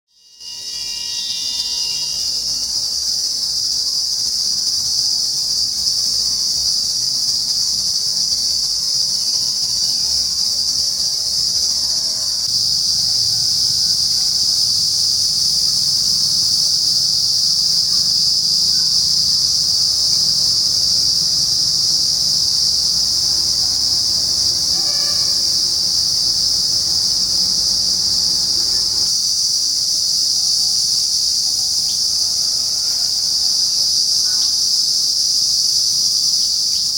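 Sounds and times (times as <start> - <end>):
insects shrill droning chorus: 0.1 - 36.9.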